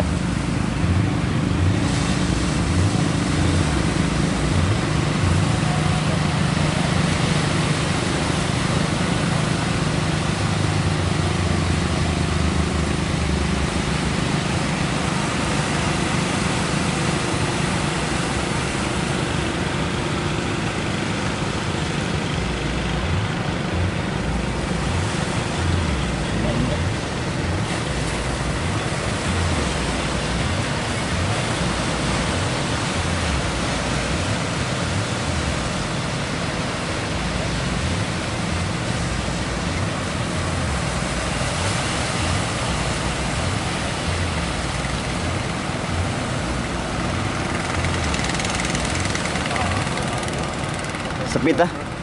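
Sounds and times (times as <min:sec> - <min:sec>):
boat engine humming: 0:00.0 - 0:52.0
surf: 0:00.0 - 0:52.0
wind: 0:00.0 - 0:52.0.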